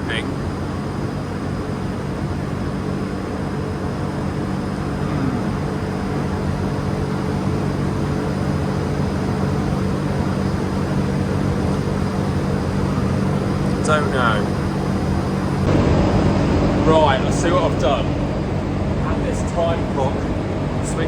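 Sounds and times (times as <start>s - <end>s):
ventilation fans humming: 0.0s - 21.0s.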